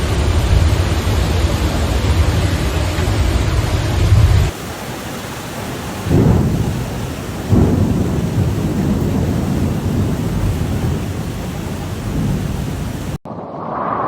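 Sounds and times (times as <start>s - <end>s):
heavy rain: 0.0s - 13.2s
thunder rolling: 0.0s - 13.2s.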